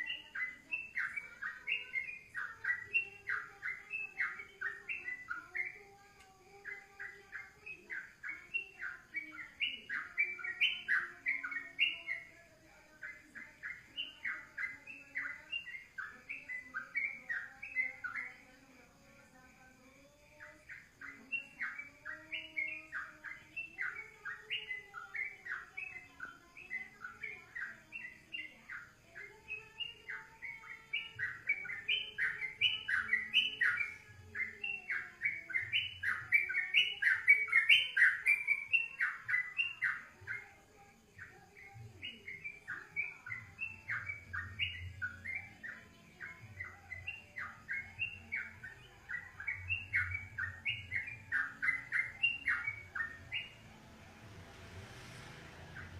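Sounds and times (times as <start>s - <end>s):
songbird chirping: 0.0s - 55.9s.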